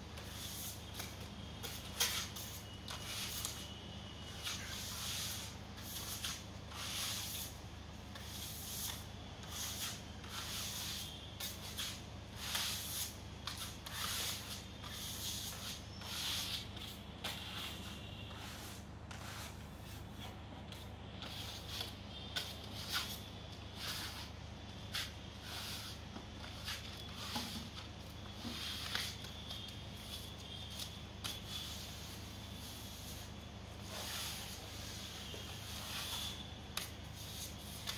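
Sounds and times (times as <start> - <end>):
trowels scraping paste on wall: 0.2 - 37.9.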